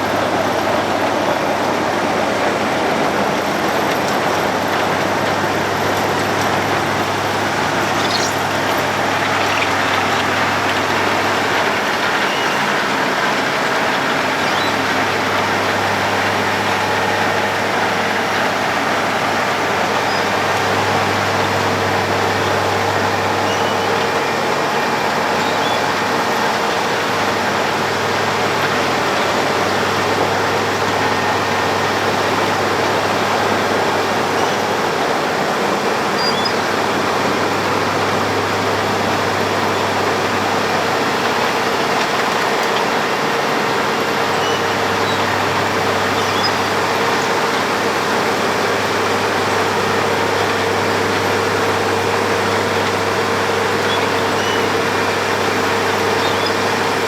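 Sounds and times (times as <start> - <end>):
road milling machine engine din: 0.0 - 57.0.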